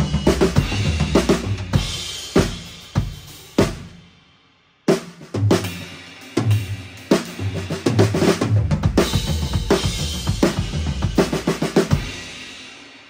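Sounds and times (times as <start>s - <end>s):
acoustic drum kit playing: 0.0s - 4.0s, 4.9s - 12.6s.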